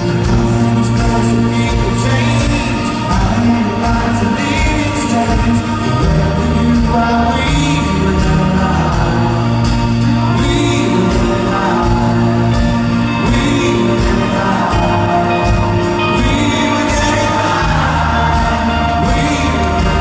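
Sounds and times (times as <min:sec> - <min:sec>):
acoustic guitars strumming: 0:00.0 - 0:20.0
bass and drums: 0:00.0 - 0:20.0
man singing: 0:00.0 - 0:20.0.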